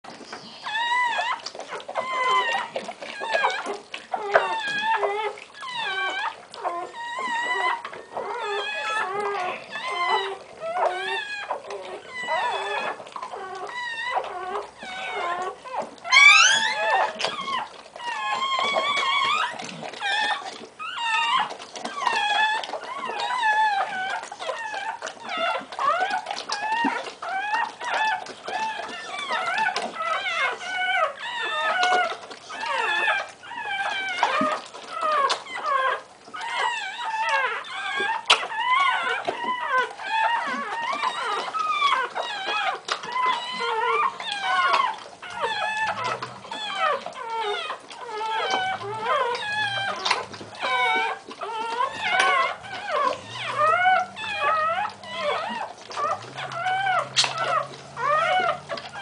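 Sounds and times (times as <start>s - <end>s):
puppies squealing and whimpering: 0.1s - 59.0s.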